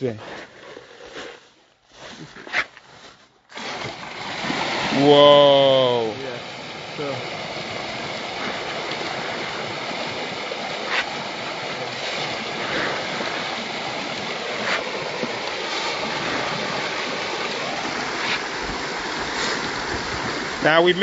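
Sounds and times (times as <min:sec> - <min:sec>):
running water rushing: 0:03.5 - 0:21.0.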